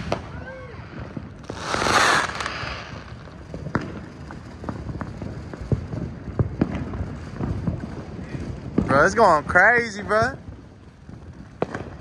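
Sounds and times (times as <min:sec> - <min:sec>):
fireworks bangs and pops: 0:00.0 - 0:12.0
fireworks crackling and hissing: 0:00.0 - 0:12.0.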